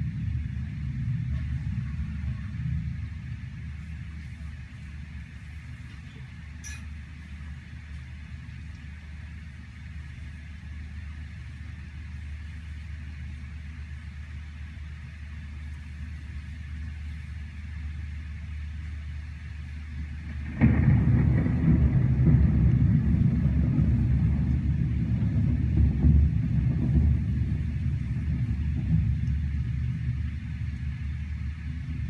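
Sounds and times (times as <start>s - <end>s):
steady rain: 0.0s - 32.0s
thunder rumbling: 0.0s - 32.0s.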